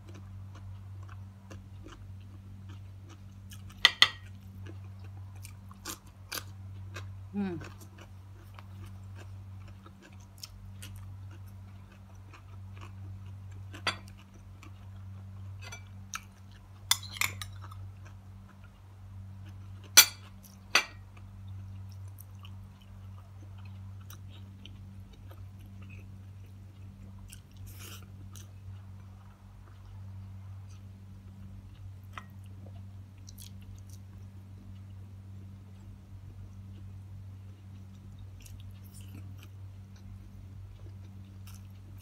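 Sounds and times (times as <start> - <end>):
person chewing food: 0.0 - 42.0
steady low hum: 0.0 - 42.0.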